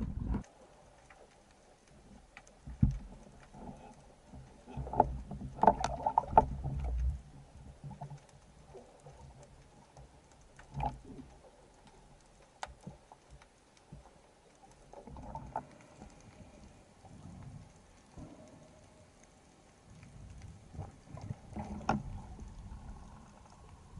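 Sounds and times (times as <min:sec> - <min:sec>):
sharp underwater clicks: 0:00.0 - 0:23.9.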